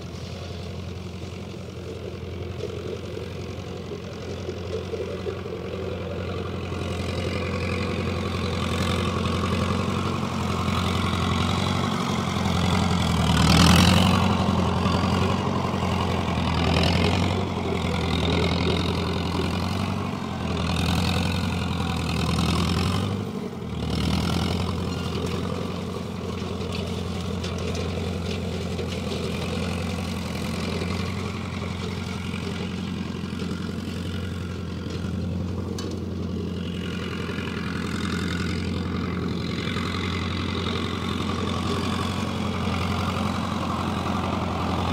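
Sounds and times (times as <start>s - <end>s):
tractor diesel engine revving: 0.0s - 44.9s.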